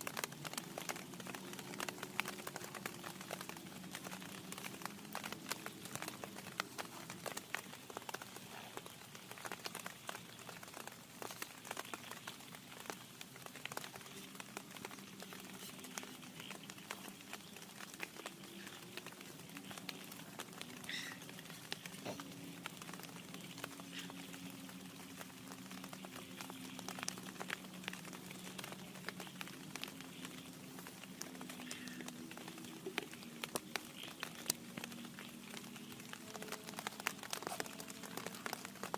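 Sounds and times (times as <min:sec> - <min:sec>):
raindrops ticking on a tent: 0:00.0 - 0:38.9.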